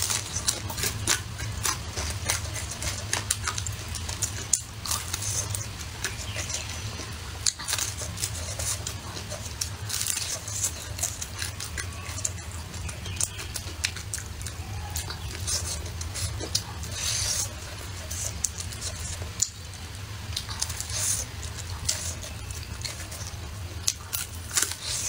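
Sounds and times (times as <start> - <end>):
crunchy chewing of fried chicken: 0.0 - 25.0
steady low hum: 0.0 - 25.0.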